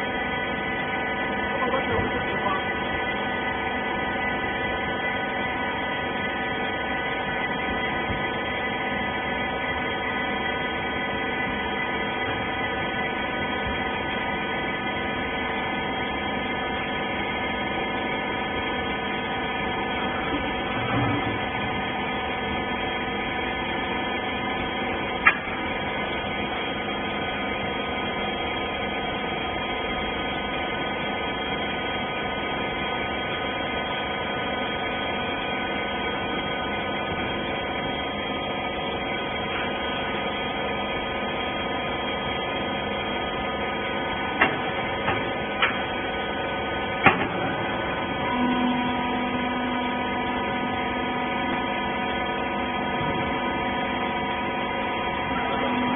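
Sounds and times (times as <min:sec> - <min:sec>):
hydraulic power unit humming: 0:00.0 - 0:55.9.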